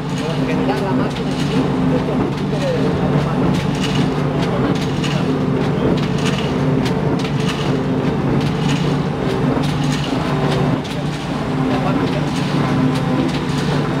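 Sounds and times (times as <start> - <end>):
machine humming: 0.0 - 14.0
regular machine clatter: 0.0 - 14.0.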